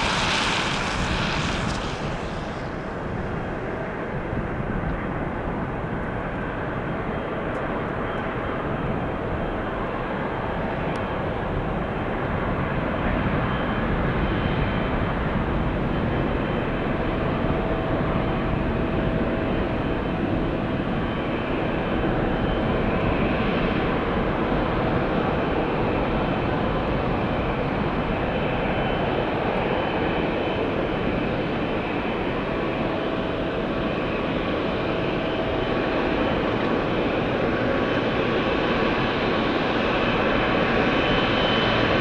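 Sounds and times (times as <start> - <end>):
jet engines running: 0.0 - 42.0.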